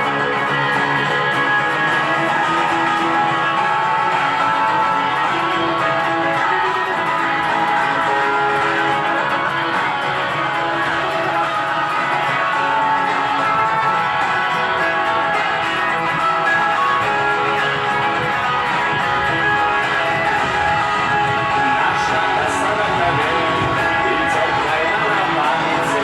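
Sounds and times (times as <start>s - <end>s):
guitar strumming: 0.0s - 26.0s.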